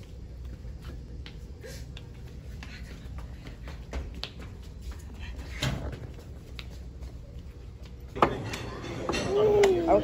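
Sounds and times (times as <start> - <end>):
footsteps on tiled floor: 0.0 - 8.2.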